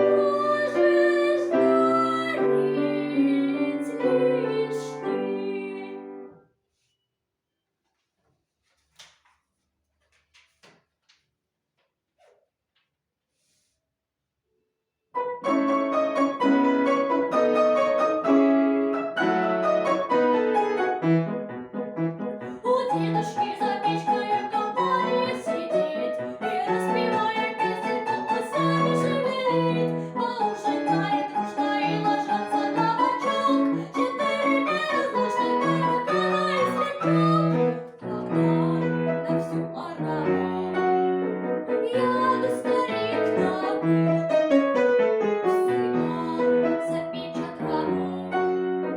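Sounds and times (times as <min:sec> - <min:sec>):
lively piano piece: 0:00.0 - 0:06.4, 0:15.2 - 0:48.9.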